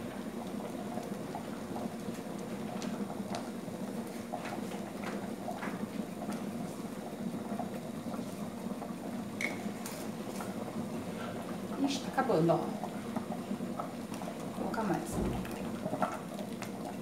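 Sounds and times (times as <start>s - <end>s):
pots bubbling: 0.0s - 17.0s.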